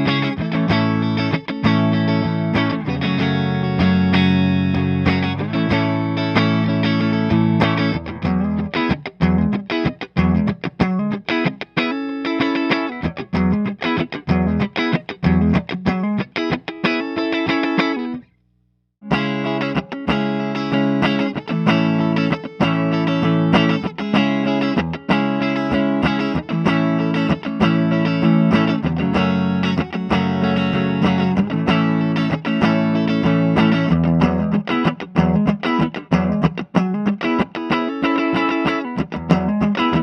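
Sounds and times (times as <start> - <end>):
clean electric guitar: 0.0 - 40.0.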